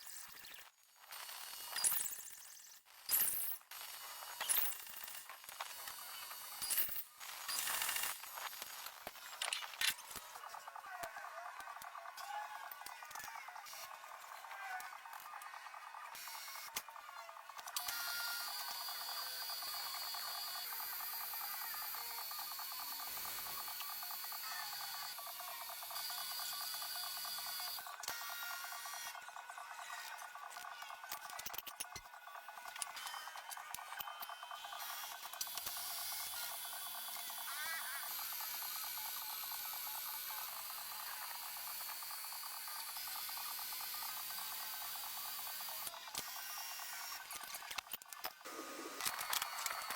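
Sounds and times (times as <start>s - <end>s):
rapid mechanical clicking: 0.4s - 49.9s.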